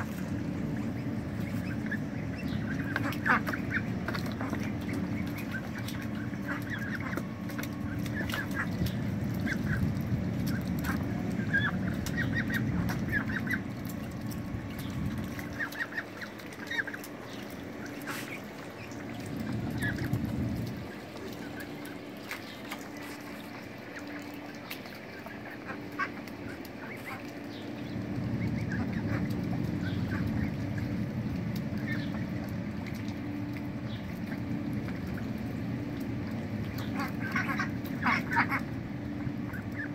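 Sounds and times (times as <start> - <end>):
ducks quacking: 0.0 - 14.1, 14.7 - 30.9, 36.7 - 39.9
ducks splashing in water: 0.0 - 39.9
low hum: 0.0 - 39.9.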